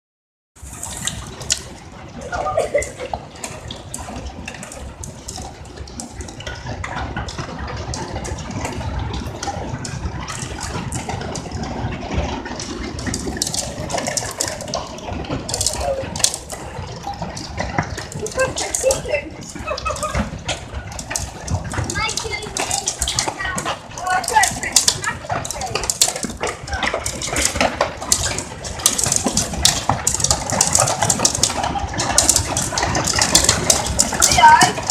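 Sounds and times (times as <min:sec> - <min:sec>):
drop splashes: 0:00.6 - 0:34.9
heavy rain falling: 0:00.6 - 0:34.9
running water rumble: 0:00.6 - 0:34.9.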